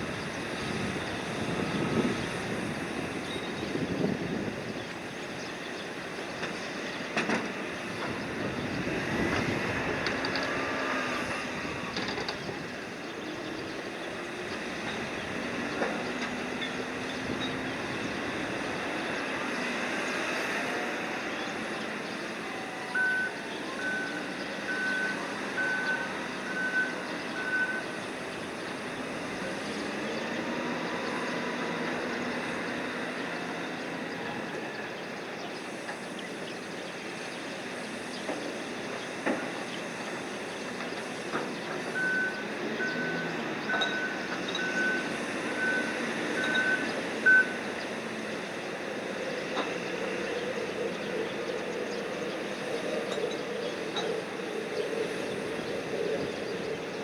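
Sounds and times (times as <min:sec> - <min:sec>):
crane machinery whining: 0:00.0 - 0:57.0.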